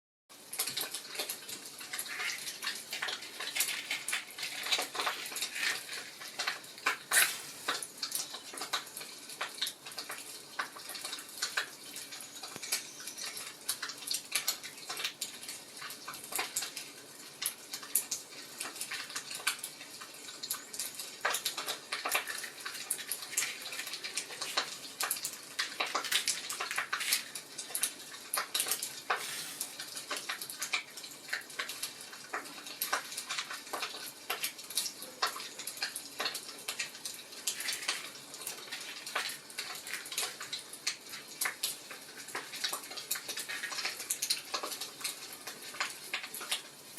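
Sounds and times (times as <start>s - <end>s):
wood fire crackling: 0.3s - 46.9s.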